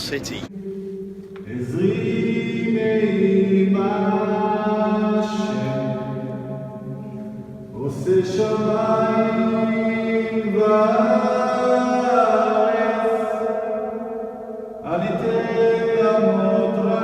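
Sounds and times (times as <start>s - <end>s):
voice chanting long notes: 0.5s - 17.0s.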